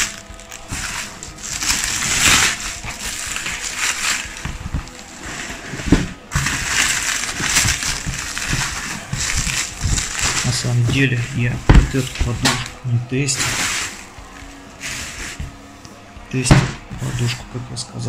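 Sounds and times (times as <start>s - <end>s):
plastic and cardboard rustling: 0.0s - 17.9s.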